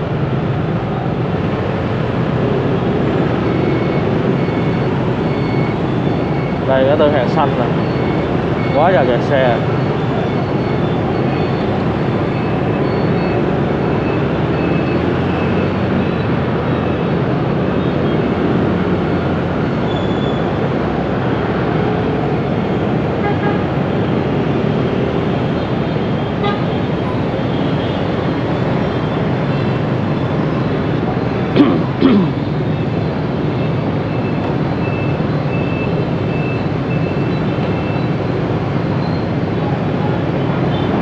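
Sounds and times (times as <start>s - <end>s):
motorbike engines in traffic: 0.0s - 41.0s.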